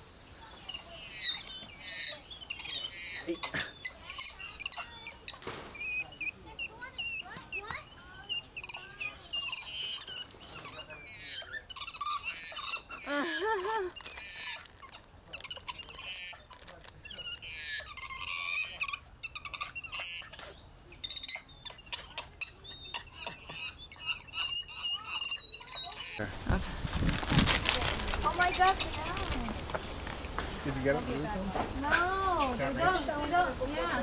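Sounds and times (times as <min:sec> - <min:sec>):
monkeys squeaking and chirping: 0:00.4 - 0:26.2, 0:27.1 - 0:30.0.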